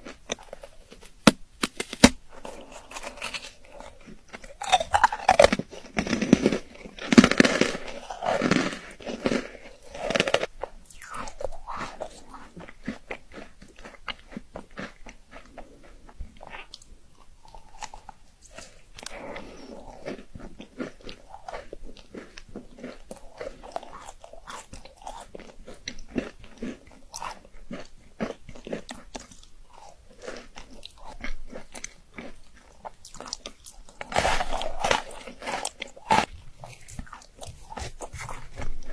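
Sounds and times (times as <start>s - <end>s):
biting into chocolate: 0.0s - 38.9s
chewing with small clicks: 2.6s - 38.9s.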